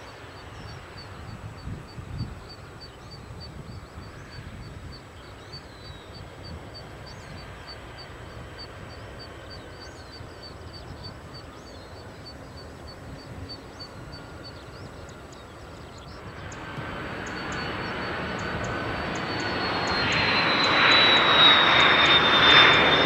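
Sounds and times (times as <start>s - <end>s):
distant aircraft rumble: 0.0s - 23.0s.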